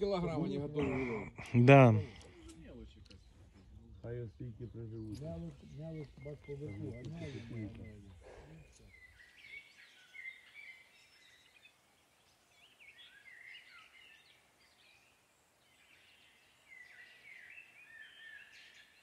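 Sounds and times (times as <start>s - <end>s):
faint birdsong chirping: 0.0s - 19.0s.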